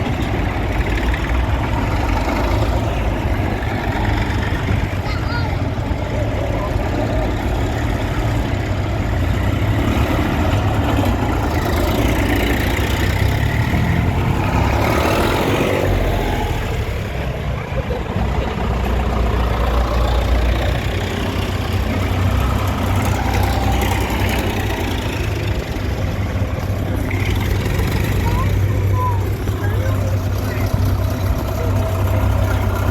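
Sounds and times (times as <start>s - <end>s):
tractor engines idling: 0.0s - 32.9s.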